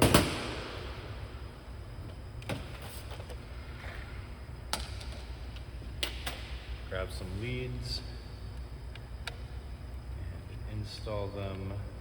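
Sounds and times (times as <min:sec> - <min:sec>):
workshop hum: 0:00.0 - 0:12.0.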